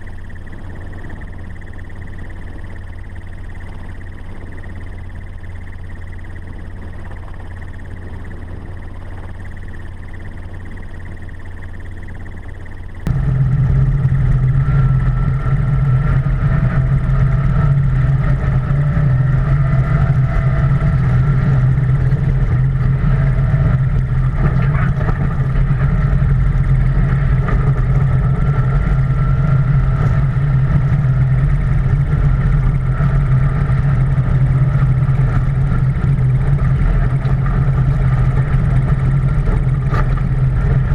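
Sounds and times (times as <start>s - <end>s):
vehicle engine running under load: 0.0s - 40.9s.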